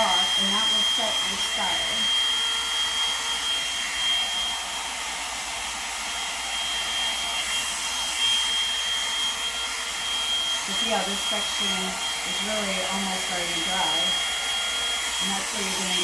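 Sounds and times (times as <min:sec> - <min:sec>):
hot-air brush dryer running: 0:00.0 - 0:16.0.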